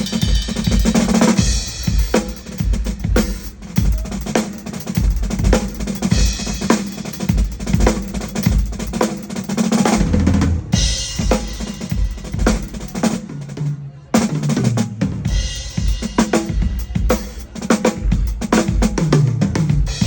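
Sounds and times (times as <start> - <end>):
drum kit playing: 0.0 - 20.0.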